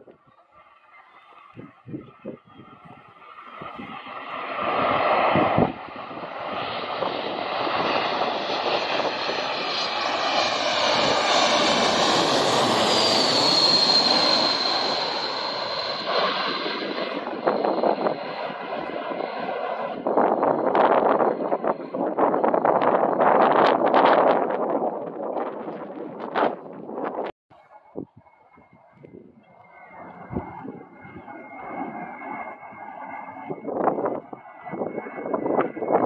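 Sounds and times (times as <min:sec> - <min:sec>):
jet airliner engine roar: 0:00.0 - 0:36.0
high jet whine dropping in pitch: 0:01.2 - 0:36.0
wind buffeting microphone: 0:01.4 - 0:15.2, 0:16.0 - 0:27.3, 0:27.9 - 0:36.0.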